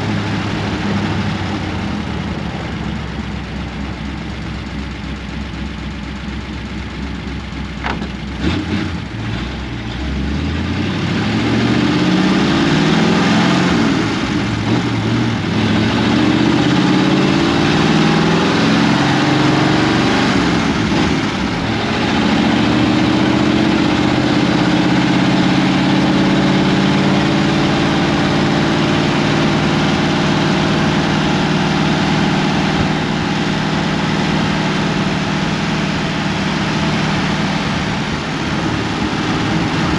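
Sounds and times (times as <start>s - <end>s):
car engine through straight pipes: 0.0s - 39.9s.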